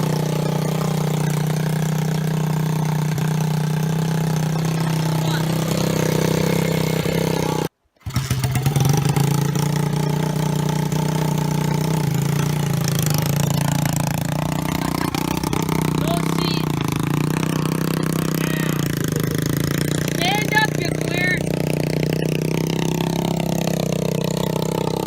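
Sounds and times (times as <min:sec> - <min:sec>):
motorbike engine idling: 0:00.0 - 0:25.0.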